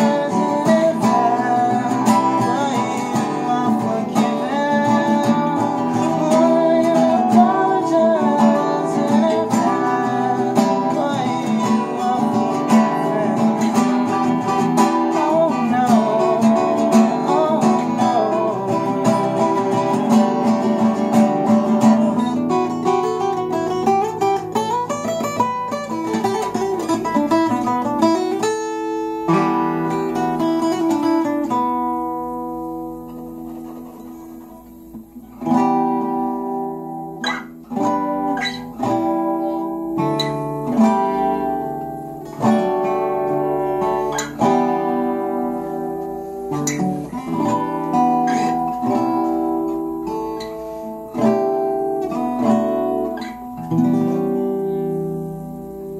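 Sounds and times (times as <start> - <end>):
acoustic guitars playing: 0.0 - 55.9.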